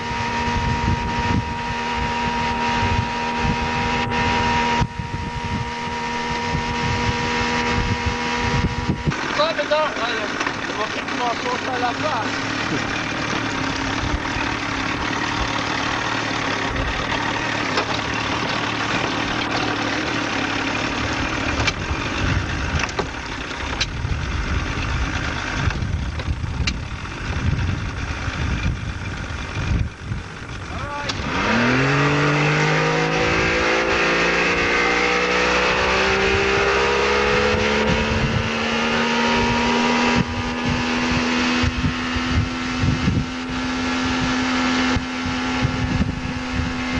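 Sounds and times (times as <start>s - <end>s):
motorboat engine revving: 0.0s - 46.9s.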